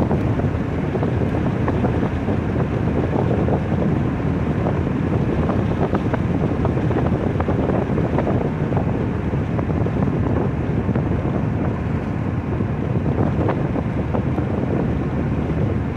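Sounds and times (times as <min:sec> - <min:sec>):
car road noise: 0:00.0 - 0:15.9
wind buffeting microphone: 0:00.0 - 0:15.9.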